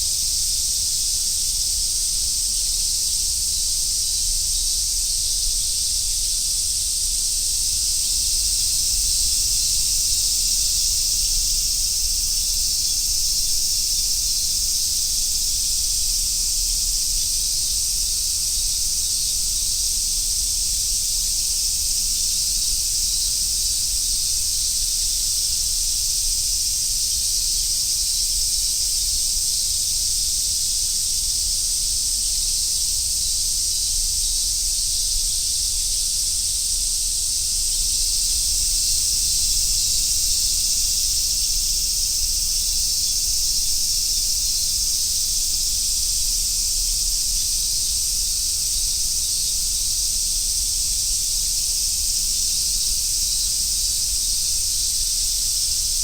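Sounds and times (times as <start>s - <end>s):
cicadas chorus: 0.0s - 56.0s.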